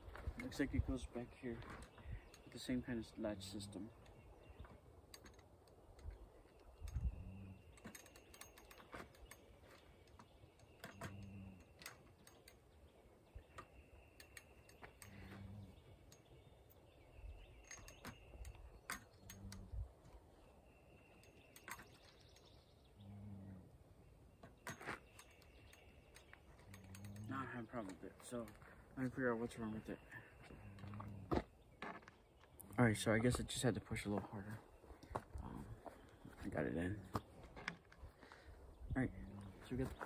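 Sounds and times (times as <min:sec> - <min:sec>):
faint birds calling: 0:00.0 - 0:40.0.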